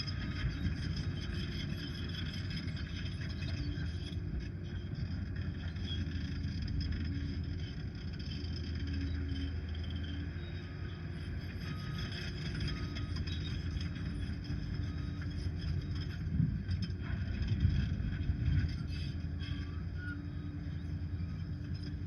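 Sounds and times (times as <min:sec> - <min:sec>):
dozer diesel engine rumbling: 0:00.0 - 0:22.0.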